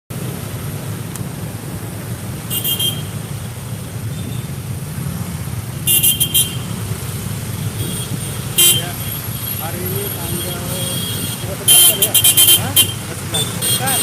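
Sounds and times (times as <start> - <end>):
traffic engine rumble: 0.1 - 14.0.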